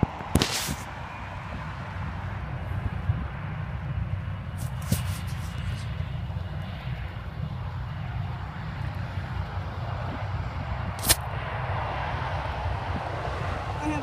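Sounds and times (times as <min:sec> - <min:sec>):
distant jet engines: 0:00.0 - 0:14.0.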